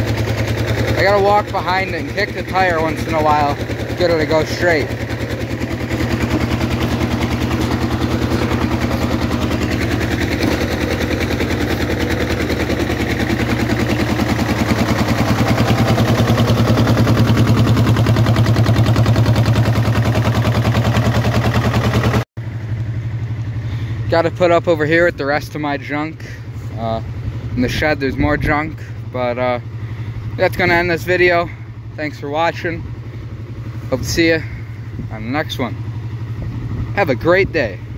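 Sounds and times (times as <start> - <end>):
diesel tractor engine chugging: 0.0 - 37.9.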